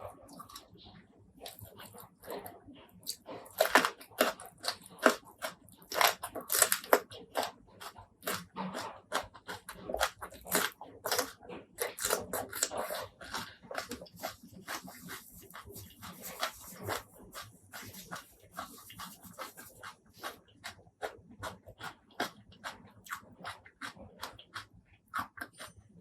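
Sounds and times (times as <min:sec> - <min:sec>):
crunchy chewing: 0:00.0 - 0:26.0.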